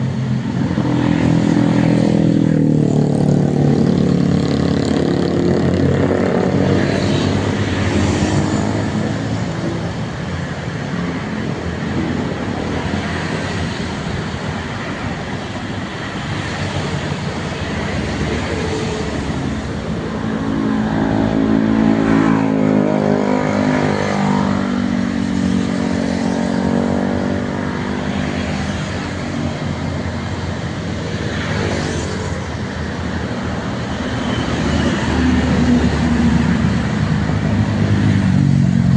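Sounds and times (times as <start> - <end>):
vehicle engines with tyre noise: 0.0 - 38.9.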